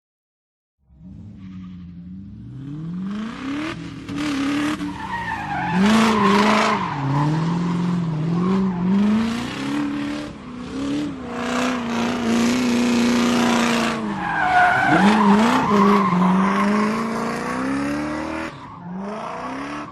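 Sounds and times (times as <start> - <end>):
race car engine revving: 0.9 - 19.9
tyres squealing and skidding: 1.0 - 2.1, 4.2 - 19.9.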